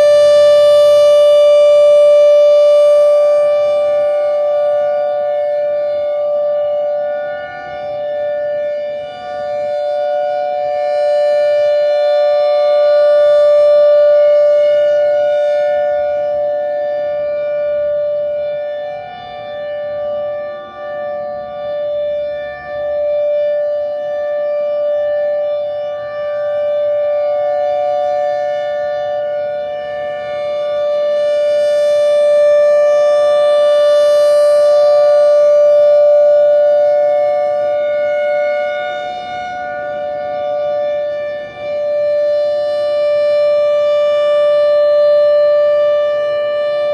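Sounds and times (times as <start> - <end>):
two-tone warning siren: 0.0 - 46.9.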